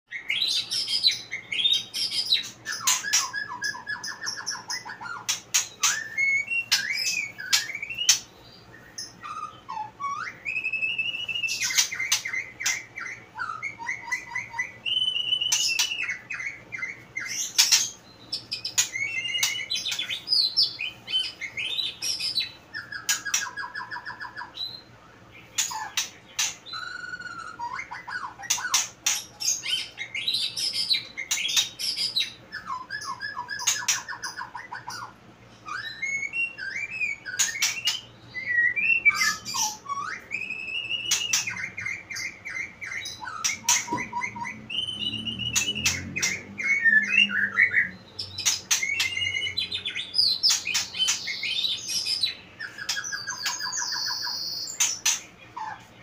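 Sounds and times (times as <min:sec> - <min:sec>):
songbird whistling and trilling: 0:00.1 - 0:55.8.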